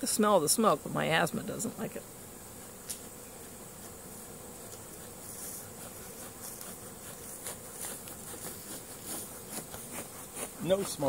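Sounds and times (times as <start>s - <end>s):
swarm of bees humming: 0.0s - 11.0s.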